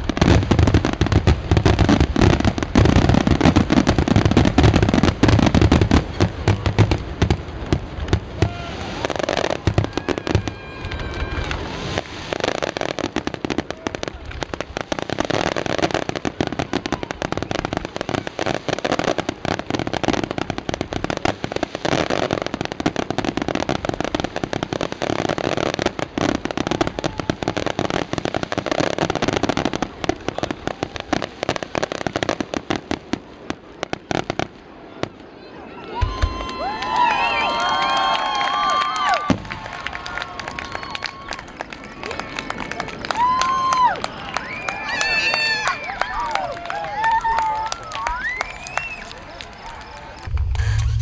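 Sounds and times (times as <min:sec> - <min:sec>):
fireworks crackling and popping: 0:00.0 - 0:51.0.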